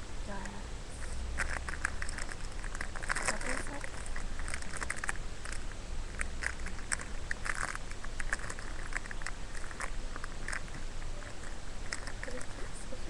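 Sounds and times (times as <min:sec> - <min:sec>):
squishy toy crackling and clicking: 0:01.4 - 0:13.0.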